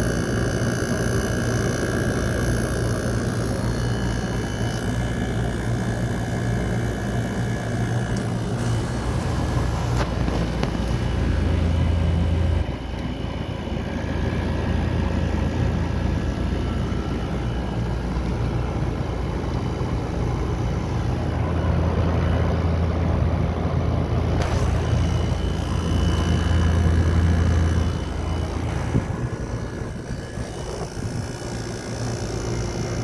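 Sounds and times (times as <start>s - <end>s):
air conditioner fan rushing: 0.0s - 33.0s
low hum: 0.0s - 33.0s.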